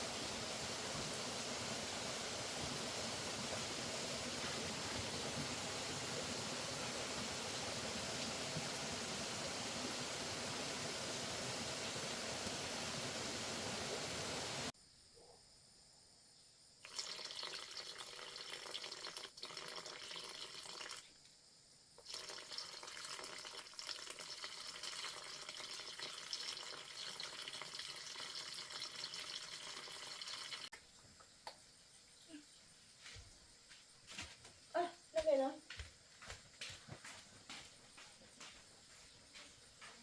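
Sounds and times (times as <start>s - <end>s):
water running and splashing: 0.0s - 14.7s, 16.8s - 21.1s, 22.0s - 36.4s.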